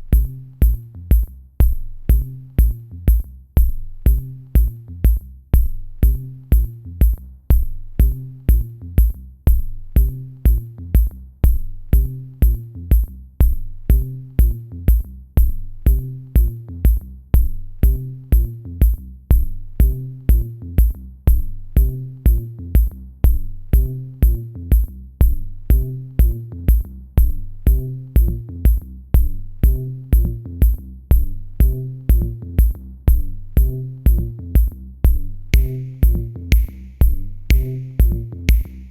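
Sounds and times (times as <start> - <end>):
electronic music with drum machine: 0.0 - 38.9.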